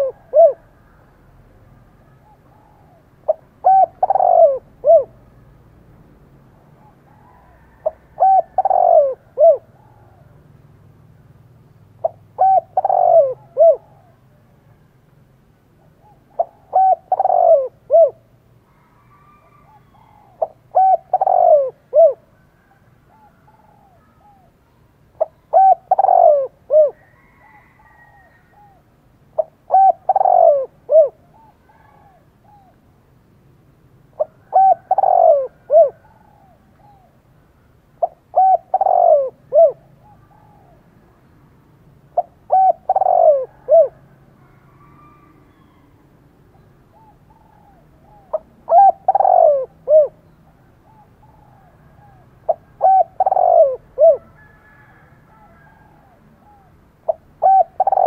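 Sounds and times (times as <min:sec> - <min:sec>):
dove cooing: 0:00.0 - 0:01.2, 0:02.0 - 0:05.3, 0:06.7 - 0:10.4, 0:11.9 - 0:14.5, 0:15.8 - 0:32.8, 0:34.1 - 0:37.2, 0:38.0 - 0:41.0, 0:42.1 - 0:58.0.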